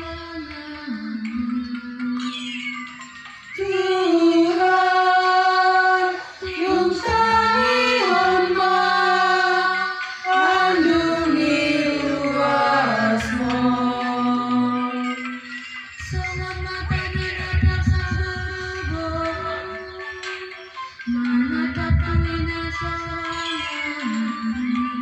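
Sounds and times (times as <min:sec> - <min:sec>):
woman singing into microphone: 0:00.0 - 0:02.7, 0:03.6 - 0:20.5, 0:21.1 - 0:25.0.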